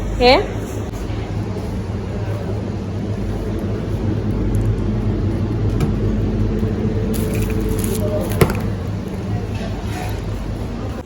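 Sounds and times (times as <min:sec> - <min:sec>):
vehicle engine hum: 0:00.9 - 0:11.0.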